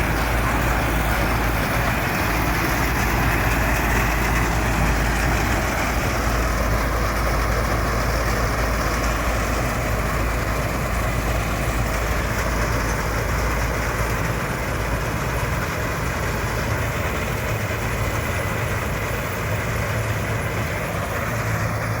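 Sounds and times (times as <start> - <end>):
combine harvester engine drone: 0.0 - 22.0.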